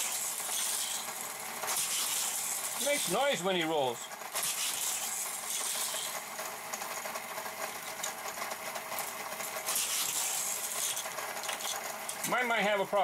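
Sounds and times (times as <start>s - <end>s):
booster wheels whirring: 0.0s - 12.6s
toy car rolling on plastic track: 0.0s - 13.0s.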